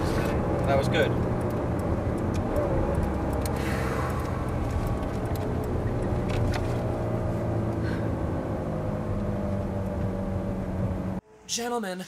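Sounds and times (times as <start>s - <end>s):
car engine running: 0.0s - 11.2s.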